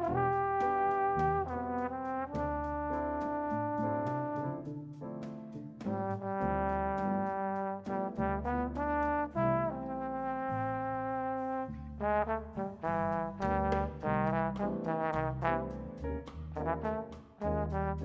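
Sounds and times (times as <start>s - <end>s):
electric bass: 0.0s - 4.7s, 5.5s - 7.2s, 8.2s - 18.0s
drums and cymbals: 0.0s - 9.4s, 12.6s - 17.8s
jazz trombone: 0.0s - 18.0s
piano: 0.0s - 18.0s.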